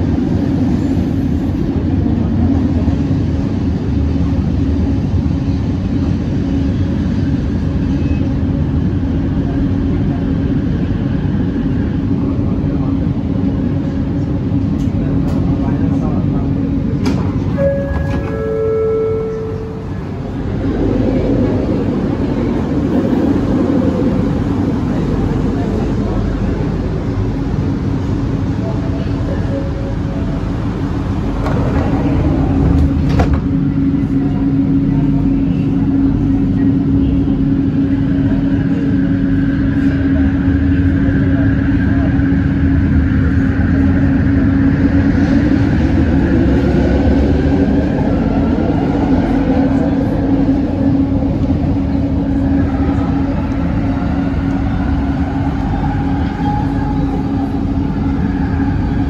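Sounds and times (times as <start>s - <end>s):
metro train low hum: 0.0s - 59.0s
train whine: 0.0s - 59.0s.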